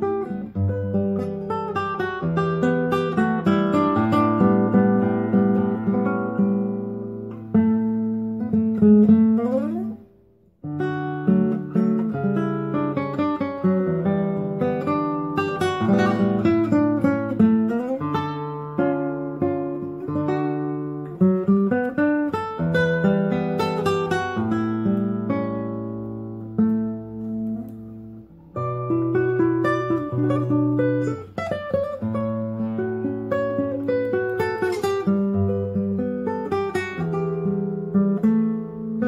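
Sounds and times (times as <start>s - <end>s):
classical guitar playing: 0.0s - 39.0s.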